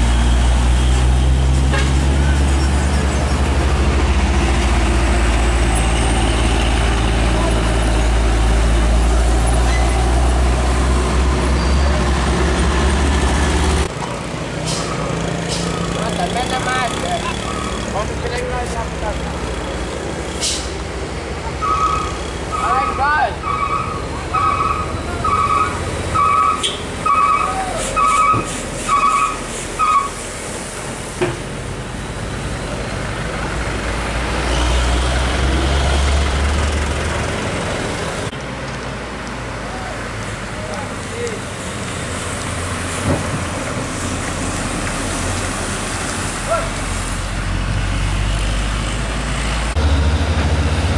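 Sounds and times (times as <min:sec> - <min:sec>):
diesel truck engine rumble: 0:00.0 - 0:50.9
traffic: 0:00.0 - 0:50.9.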